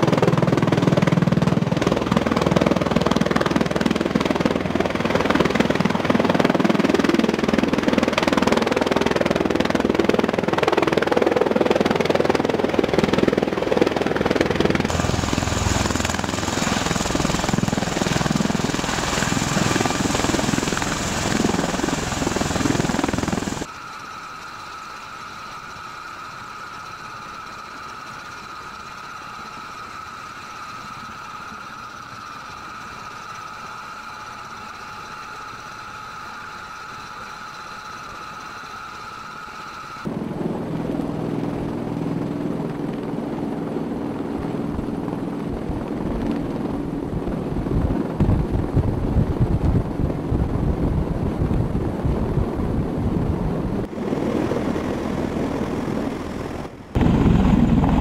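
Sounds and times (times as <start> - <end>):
high-pitched turbine whine: 0.0 - 58.0
pulsing rotor noise of hovering aircraft: 0.0 - 58.0.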